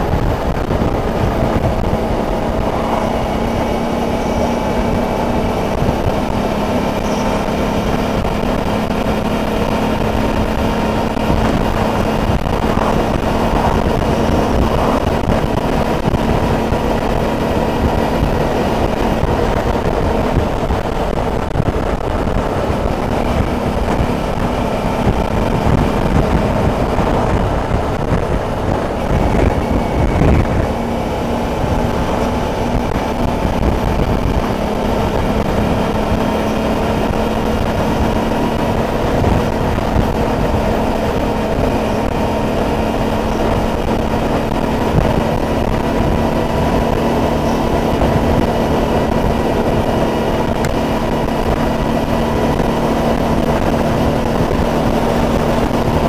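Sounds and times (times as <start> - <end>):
car passing: 0.0 - 56.0
motorcycle engine cruising: 0.0 - 56.0
wind rush: 0.0 - 56.0.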